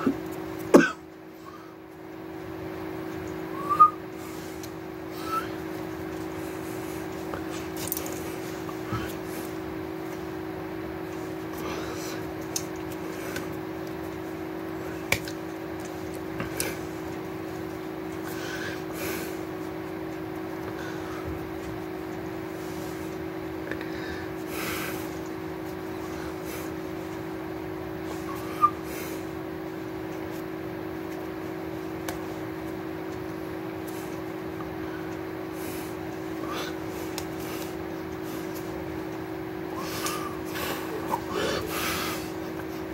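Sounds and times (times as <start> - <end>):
room equipment hum: 0.0 - 42.9.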